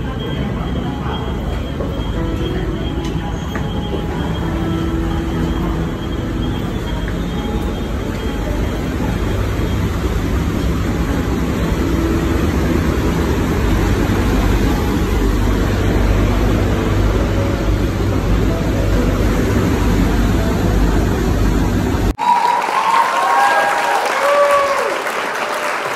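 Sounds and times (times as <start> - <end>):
ferry engines rumbling: 0.0 - 22.2.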